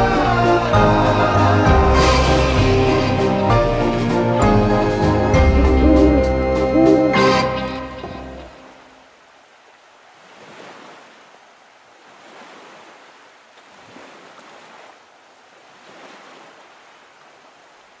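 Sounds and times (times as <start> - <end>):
sea waves washing: 0.0 - 9.1, 9.7 - 18.0.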